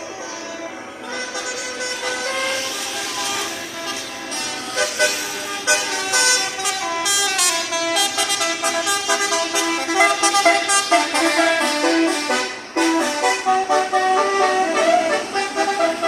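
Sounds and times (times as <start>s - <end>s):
musical air horn playing a tune: 1.0s - 16.0s.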